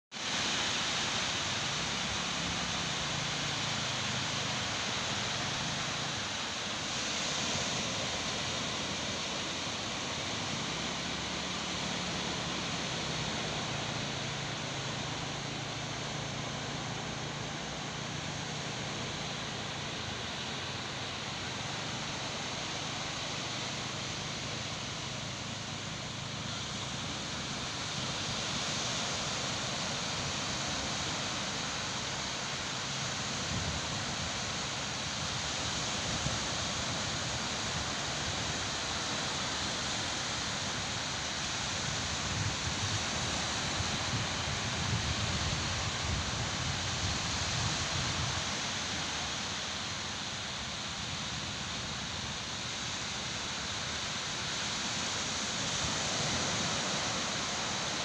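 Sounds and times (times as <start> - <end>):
small waves breaking on shore: 0.1 - 58.0.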